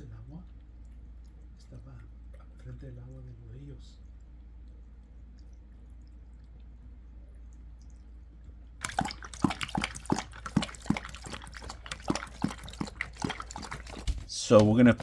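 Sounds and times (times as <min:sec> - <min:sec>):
cat lapping water: 0:00.0 - 0:15.0.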